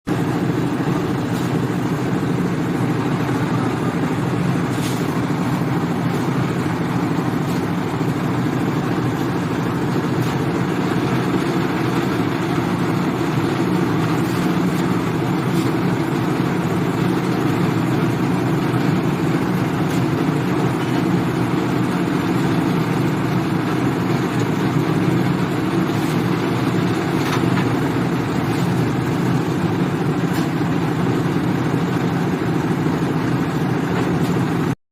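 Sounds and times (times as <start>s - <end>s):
concrete mixer drone: 0.0s - 34.8s.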